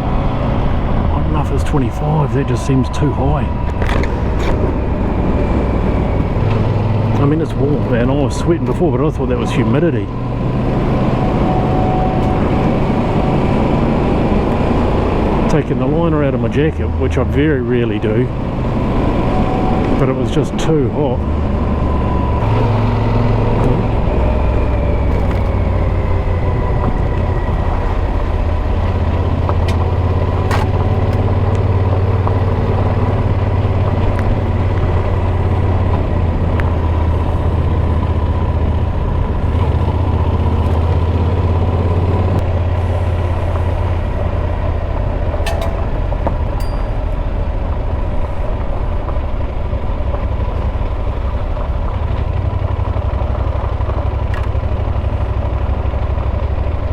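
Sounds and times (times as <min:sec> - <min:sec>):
motorcycle engine droning: 0:00.0 - 0:56.9.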